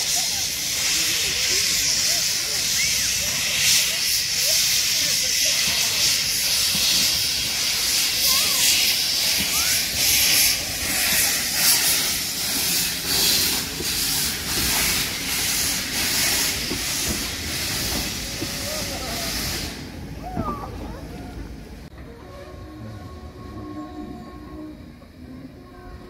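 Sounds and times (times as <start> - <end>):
steam locomotive hissing: 0.0 - 26.0.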